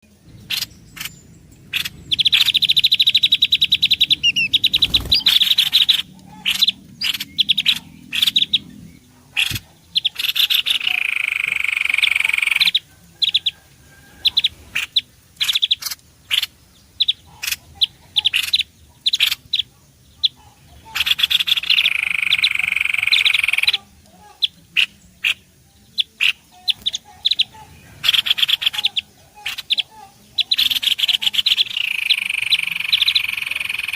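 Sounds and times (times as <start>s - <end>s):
songbird chattering trills: 0.1s - 33.9s
sharp bird chirps: 0.4s - 13.4s, 14.3s - 33.9s.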